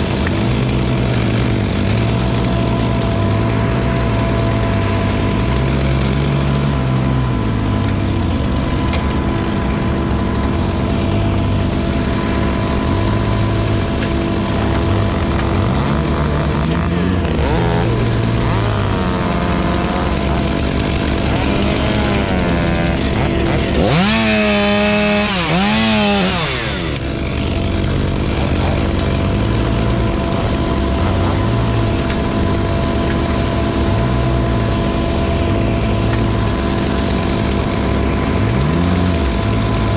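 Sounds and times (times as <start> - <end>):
chainsaw revving and cutting: 0.0 - 39.9
larger engine droning: 0.0 - 39.9.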